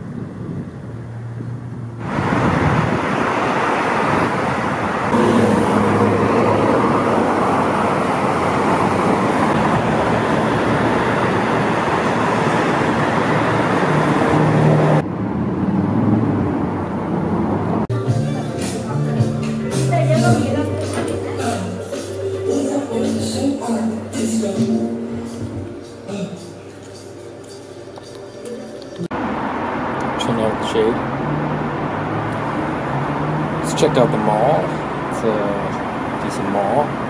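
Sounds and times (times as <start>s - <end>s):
freeway traffic rushing: 0.0s - 37.0s.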